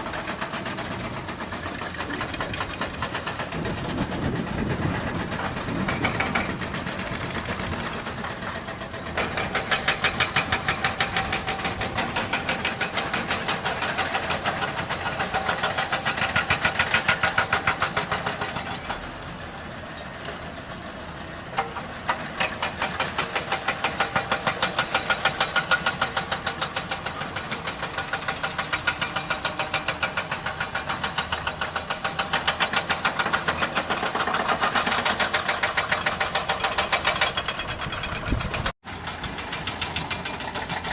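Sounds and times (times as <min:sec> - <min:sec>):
diesel truck engine clattering: 0:00.0 - 0:40.9.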